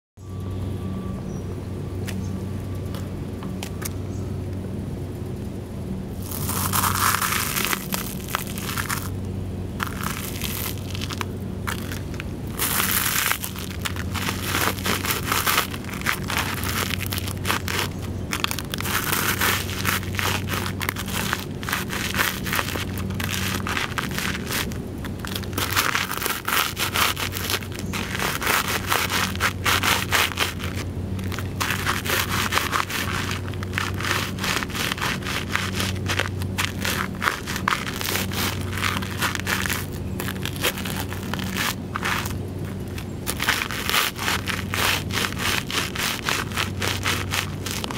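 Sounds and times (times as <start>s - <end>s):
shoes crunching cereal flakes: 6.2s - 9.2s, 9.8s - 47.9s.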